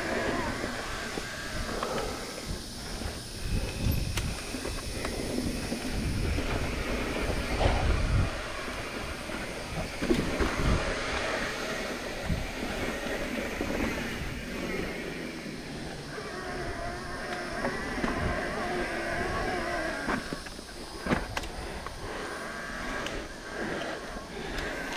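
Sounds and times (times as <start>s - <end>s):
bike tyres rumbling and rattling: 0.0s - 24.9s.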